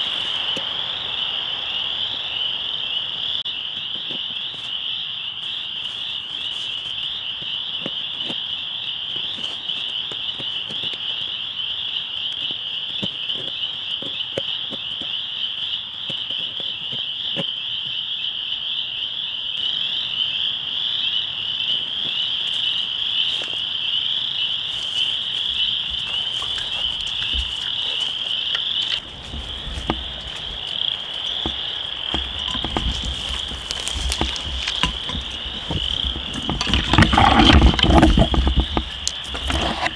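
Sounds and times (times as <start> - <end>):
frogs calling in chorus: 0.0 - 39.9.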